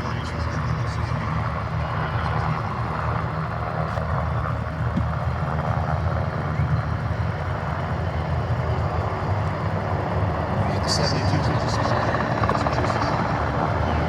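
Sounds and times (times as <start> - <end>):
helicopter rotor drone: 0.0 - 14.0.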